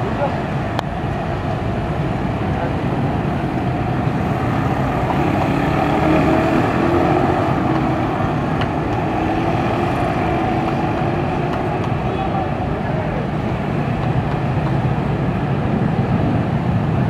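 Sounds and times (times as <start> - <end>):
train rumbling over track: 0.0 - 17.0.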